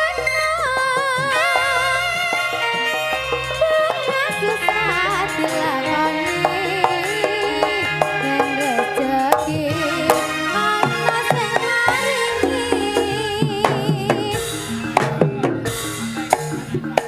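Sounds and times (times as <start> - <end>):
hand drums beating: 0.0 - 17.0
low accompaniment: 0.0 - 17.0
wavering melodic line: 0.0 - 17.0.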